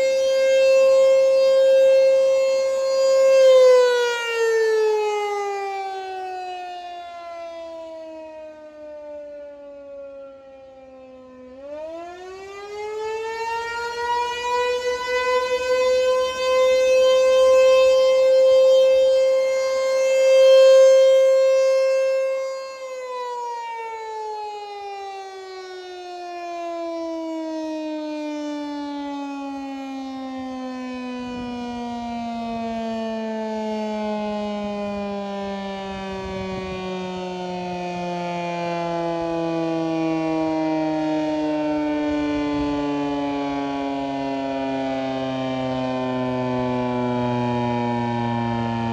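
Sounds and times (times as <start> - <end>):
rotating warning siren: 0.0 - 48.9.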